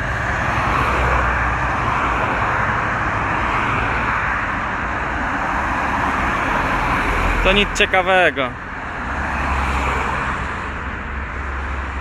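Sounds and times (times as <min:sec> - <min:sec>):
cars passing on road: 0:00.0 - 0:12.0.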